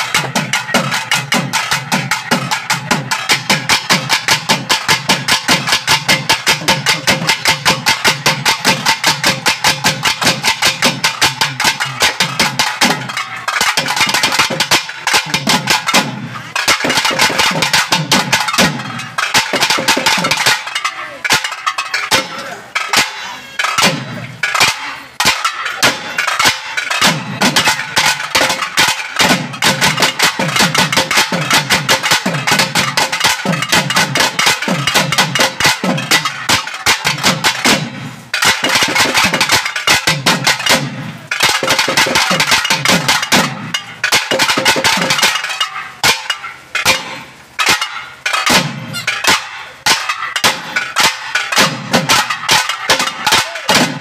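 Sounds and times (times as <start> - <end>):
fast drums beating: 0.0 - 54.0.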